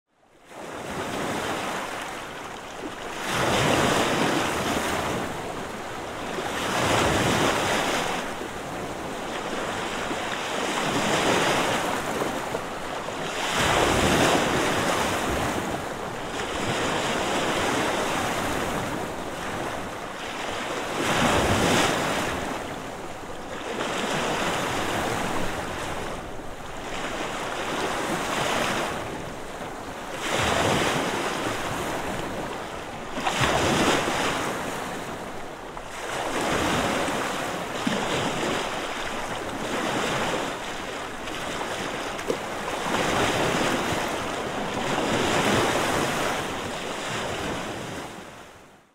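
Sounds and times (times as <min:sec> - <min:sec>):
waves crashing against pier: 0:00.5 - 0:48.7
surf washing: 0:00.5 - 0:48.8.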